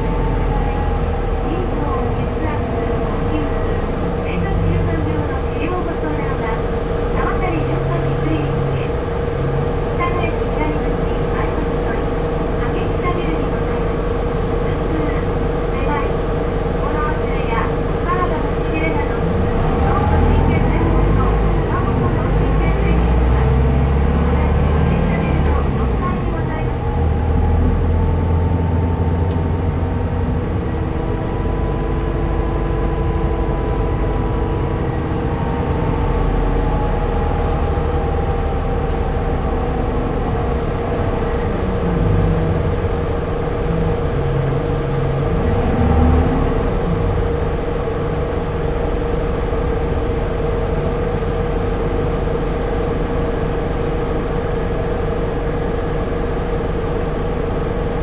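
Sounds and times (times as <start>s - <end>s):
bus diesel engine running: 0.0s - 58.0s
steady whine: 0.0s - 58.0s.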